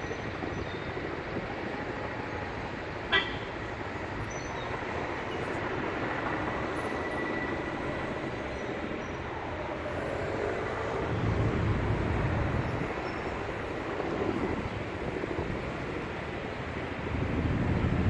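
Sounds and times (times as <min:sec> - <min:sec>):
helicopter rumbling: 0:00.9 - 0:18.0.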